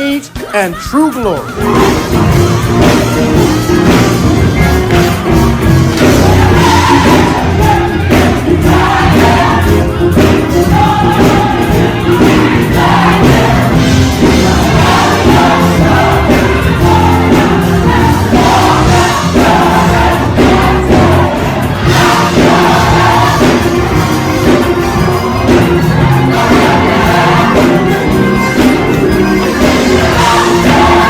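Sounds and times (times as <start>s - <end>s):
band with strong bass line: 0.0s - 31.0s
gospel choir singing: 1.2s - 31.0s.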